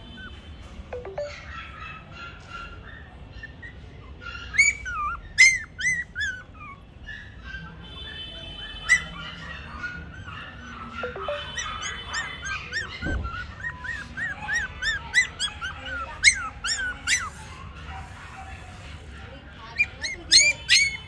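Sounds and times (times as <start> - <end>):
puppy yelping and whining: 1.0 - 8.1, 8.7 - 21.0.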